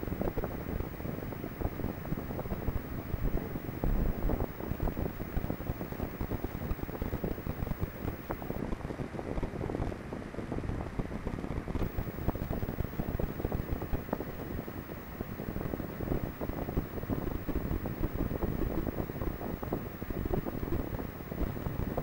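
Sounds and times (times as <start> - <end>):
rush of high-speed air: 0.0 - 8.7, 11.8 - 22.0
wind buffeting microphone: 0.0 - 8.7, 11.7 - 22.0.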